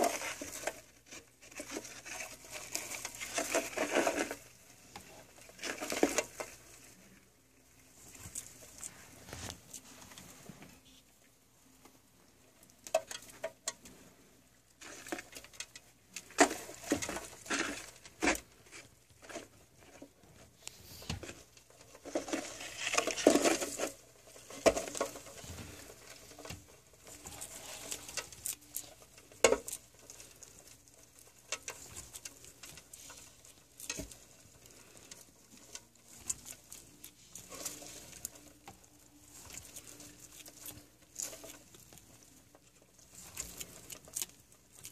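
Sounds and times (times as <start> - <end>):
scratchy rustling and patter: 0.0 - 11.0, 14.8 - 44.9.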